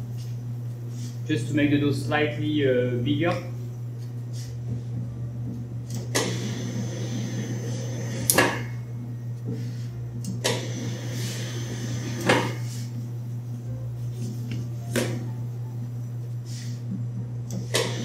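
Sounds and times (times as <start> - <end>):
dough sheeter motor hum: 0.0 - 18.0.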